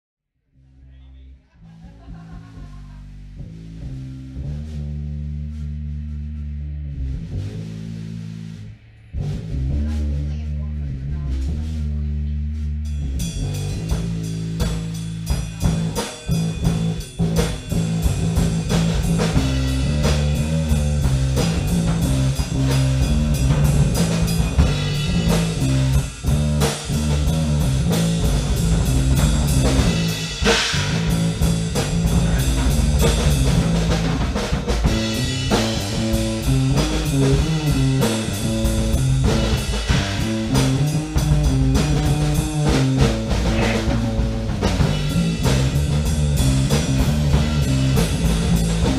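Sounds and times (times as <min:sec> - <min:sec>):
repeating bass line: 0:00.6 - 0:48.9
drum kit steady beat: 0:01.7 - 0:48.9.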